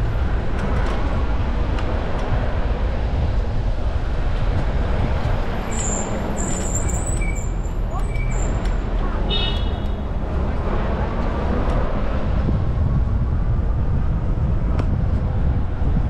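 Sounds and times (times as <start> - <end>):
street traffic: 0.0 - 16.0
wind on microphone: 0.0 - 16.0.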